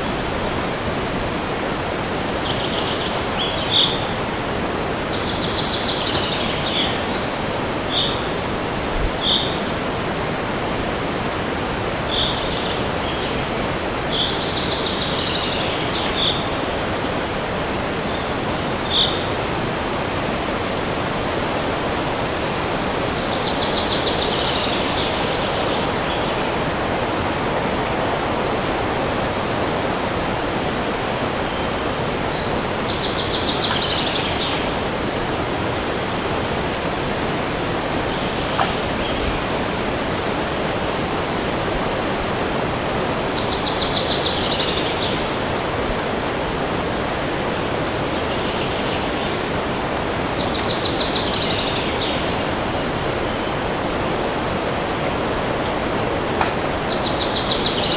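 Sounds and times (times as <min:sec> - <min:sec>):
songbirds chirping and trilling: 0:00.0 - 0:57.9
wind rushing through forest: 0:00.0 - 0:57.9.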